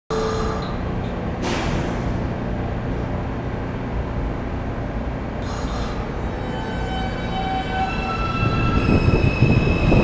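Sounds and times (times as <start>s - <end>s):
subway train rumble: 0.1s - 10.0s.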